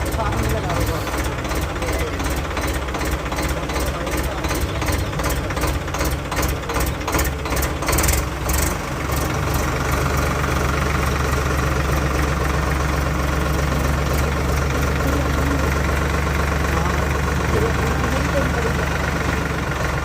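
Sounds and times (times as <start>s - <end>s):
tractor diesel engine idling: 0.0s - 20.0s.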